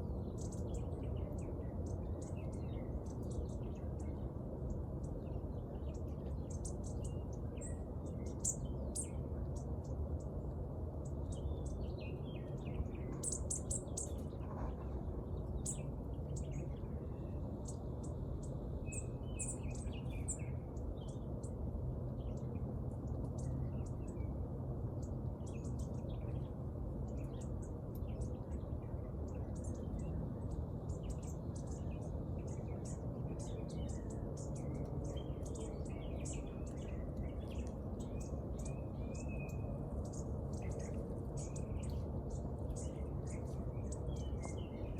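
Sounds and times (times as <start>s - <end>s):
low background rumble: 0.0s - 44.9s
small birds chirping: 0.0s - 44.9s.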